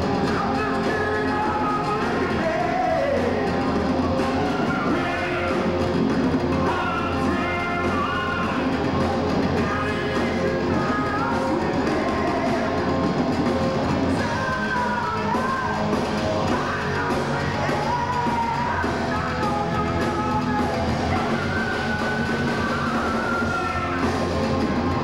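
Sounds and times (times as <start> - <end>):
drum kit: 0.0 - 25.0
electric guitar: 0.0 - 25.0
man singing rock vocals: 0.0 - 25.0.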